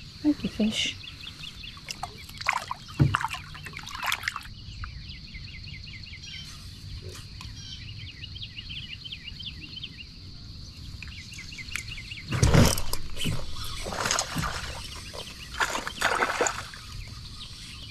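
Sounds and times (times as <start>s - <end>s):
insect hum: 0.0s - 17.9s
bird calls and chirping: 0.5s - 17.9s.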